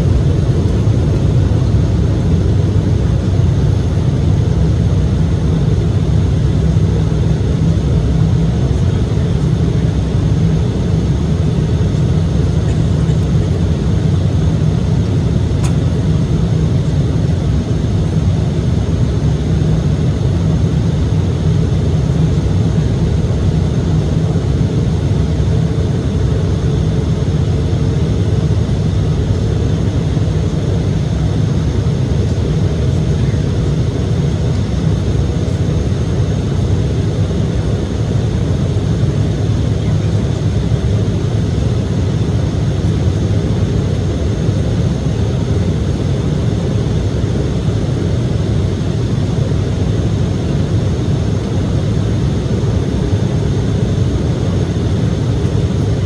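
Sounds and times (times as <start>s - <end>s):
jet cabin drone: 0.0s - 56.0s.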